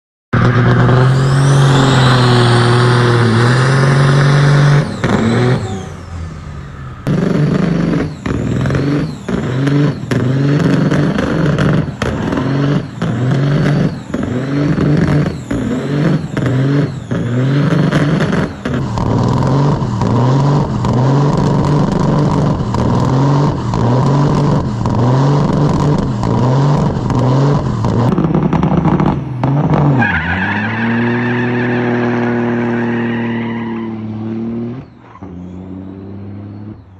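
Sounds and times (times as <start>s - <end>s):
diesel truck engine revving: 0.4s - 36.9s.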